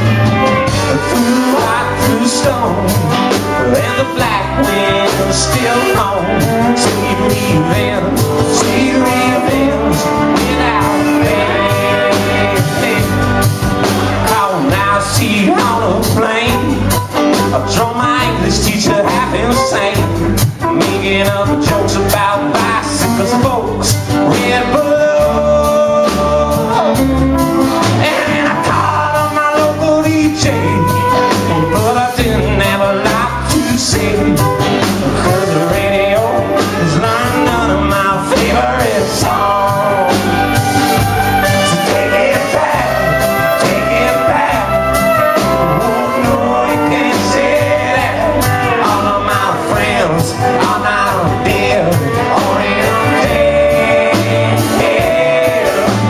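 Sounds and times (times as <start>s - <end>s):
country band playing live: 0.0s - 56.0s
person singing: 0.0s - 56.0s.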